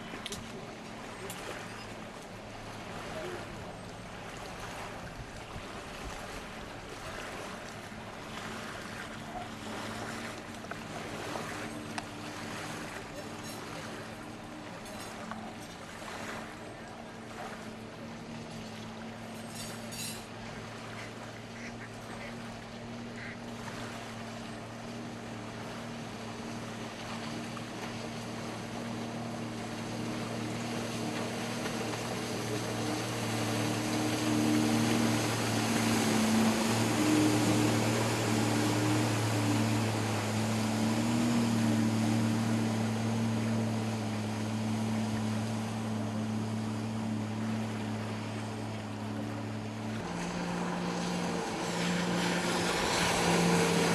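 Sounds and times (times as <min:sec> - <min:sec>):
watercraft engine running: 0:00.0 - 0:53.9.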